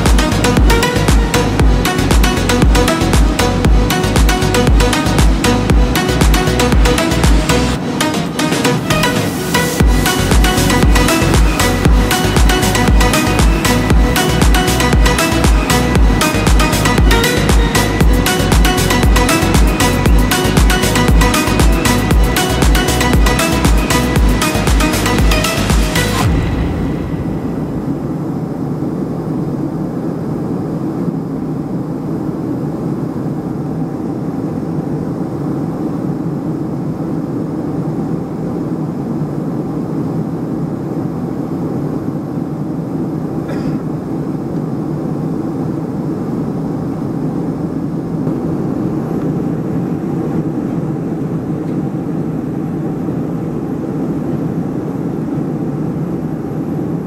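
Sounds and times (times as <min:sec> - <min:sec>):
air rushing past fuselage: 0:00.0 - 0:57.0
low jet engine hum: 0:00.0 - 0:57.0.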